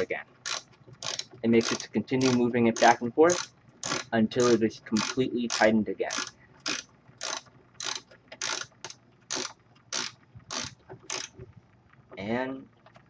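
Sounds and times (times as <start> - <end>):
ratchet wrench clicking: 0.0 - 11.4.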